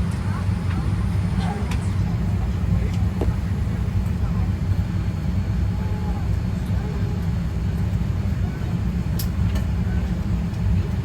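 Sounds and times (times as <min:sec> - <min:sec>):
aircraft cabin air rumble: 0:00.0 - 0:11.0
faint passenger chatter: 0:00.0 - 0:11.0.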